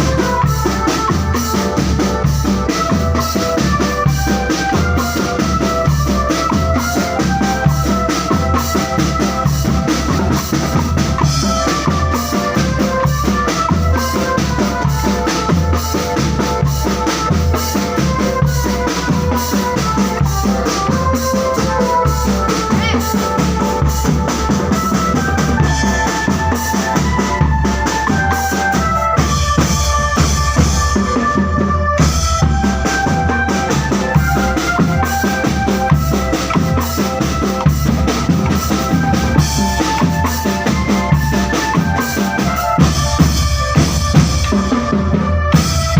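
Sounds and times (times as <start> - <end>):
bass drums: 0.0 - 45.9
snare drums: 0.0 - 45.9
sustained melody line: 0.0 - 45.9.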